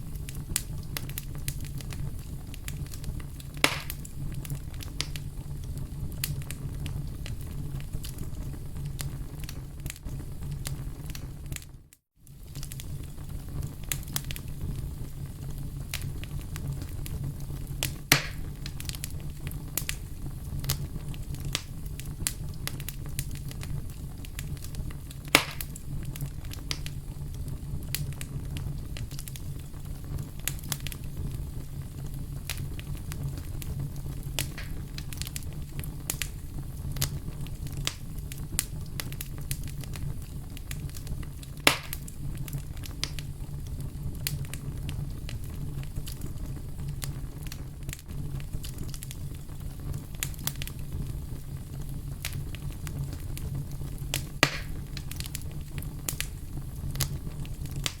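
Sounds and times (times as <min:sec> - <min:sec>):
loud fire pops: 0:00.0 - 0:11.7, 0:12.3 - 0:58.0
fire crackling in a fireplace: 0:00.0 - 0:58.0.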